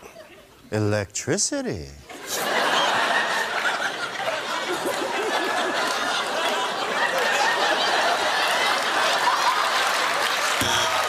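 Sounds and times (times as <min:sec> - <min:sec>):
audience laughing: 0:02.1 - 0:11.0.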